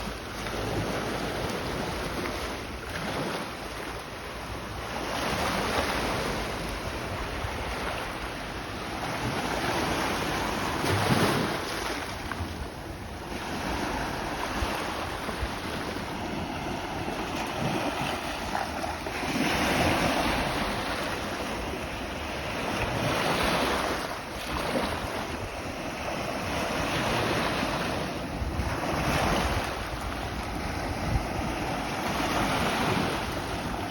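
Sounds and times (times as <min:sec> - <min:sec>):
waves washing over pebbles: 0:04.6 - 0:33.9
wind buffeting microphone: 0:05.2 - 0:33.9.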